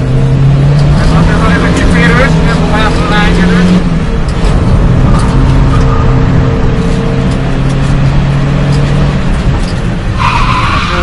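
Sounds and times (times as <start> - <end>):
car engine running: 0.0 - 10.8
road and tyre noise: 0.0 - 11.0.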